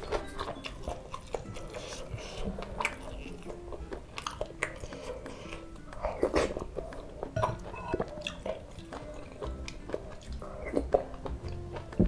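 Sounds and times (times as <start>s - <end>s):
close chewing of food: 0.0s - 12.0s.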